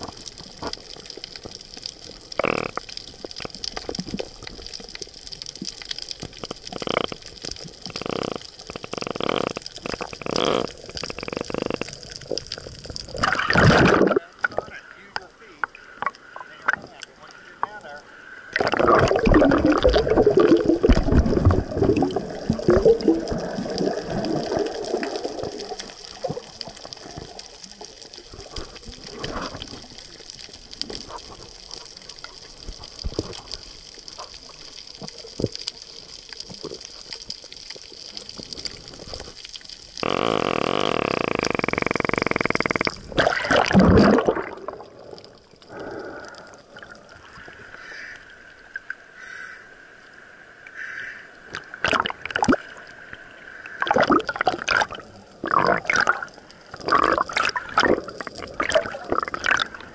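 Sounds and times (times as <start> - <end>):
underwater bubbles and gurgling: 0.0 - 59.9
underwater clicks and crackles: 0.0 - 59.9.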